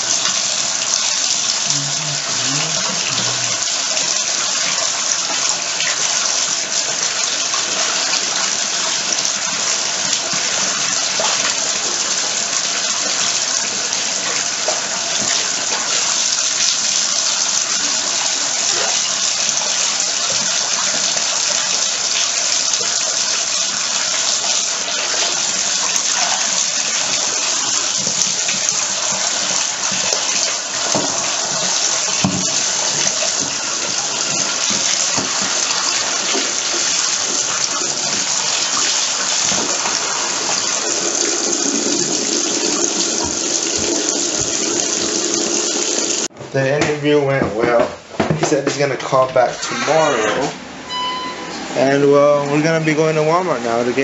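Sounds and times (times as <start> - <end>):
water gushing into bathtub: 0.0 - 46.3, 49.4 - 50.6.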